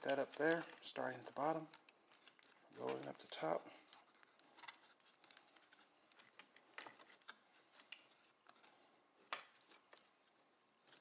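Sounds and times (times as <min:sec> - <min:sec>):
faint rubbing of tape: 0:00.1 - 0:11.0.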